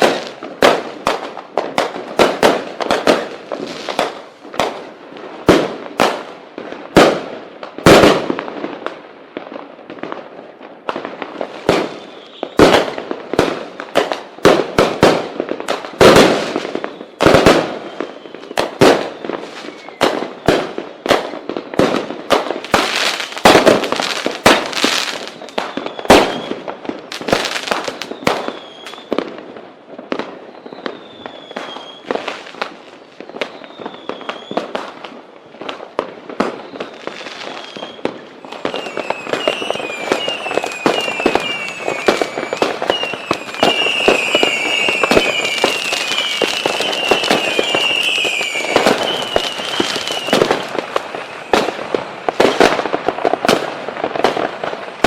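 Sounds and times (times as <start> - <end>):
fireworks bangs and crackling: 0.0 - 55.0
fireworks whistling: 0.0 - 55.0.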